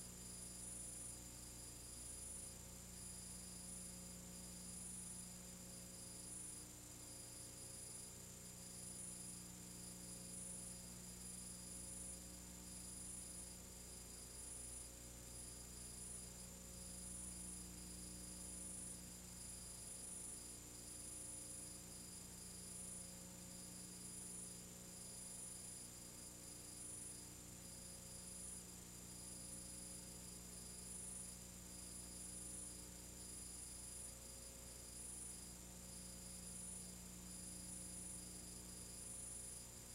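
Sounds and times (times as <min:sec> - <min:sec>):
background hiss: 0:00.0 - 0:39.9
faint electrical hum: 0:00.0 - 0:39.9.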